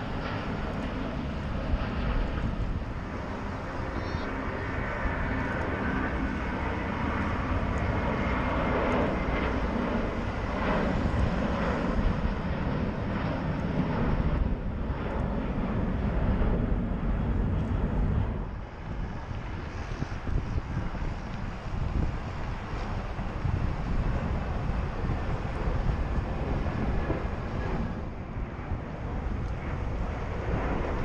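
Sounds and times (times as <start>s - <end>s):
distant jet airliner roar: 0.0s - 31.0s.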